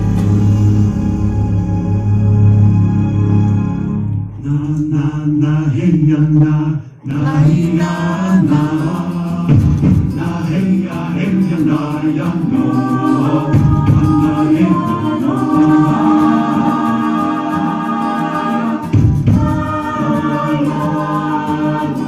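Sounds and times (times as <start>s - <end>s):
music with sung vocals: 0.0s - 22.0s.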